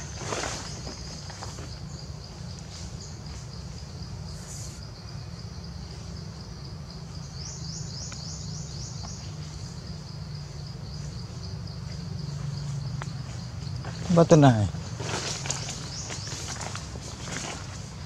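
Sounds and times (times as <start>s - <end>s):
forest insects droning: 0.0s - 18.0s
low steady rumble: 0.0s - 18.0s.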